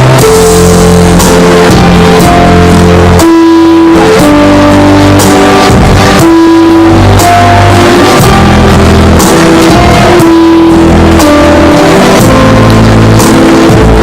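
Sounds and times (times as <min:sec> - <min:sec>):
bass: 0:00.0 - 0:14.0
drums: 0:00.0 - 0:14.0
guitar: 0:00.0 - 0:14.0.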